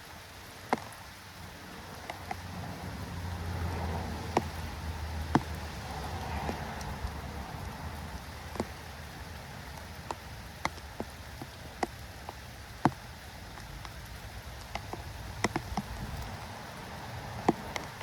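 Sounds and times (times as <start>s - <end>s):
light rain hissing: 0.0s - 18.0s
raindrops ticking on hard surface: 0.0s - 18.0s.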